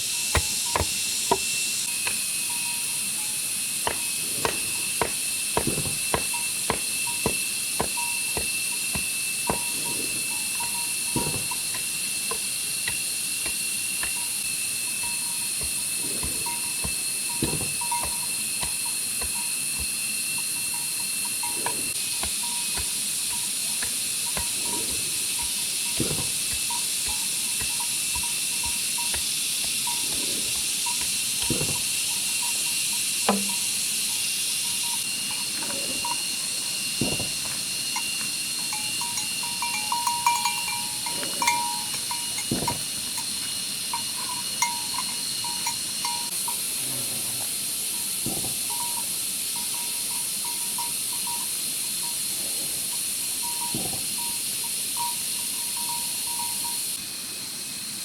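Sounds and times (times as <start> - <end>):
forest insects droning: 0.0 - 58.0.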